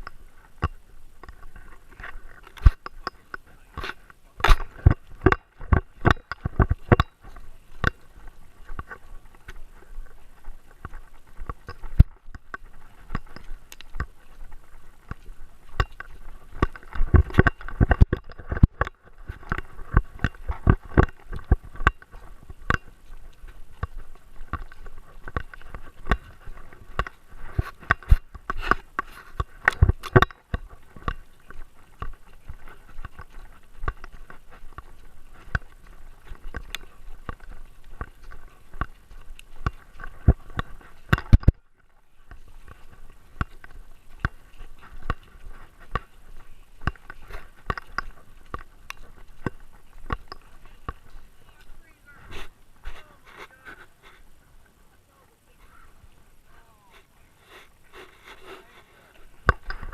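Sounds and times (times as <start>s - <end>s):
clicks and knocks on camera: 0.0s - 8.0s, 10.4s - 51.7s, 59.4s - 59.9s.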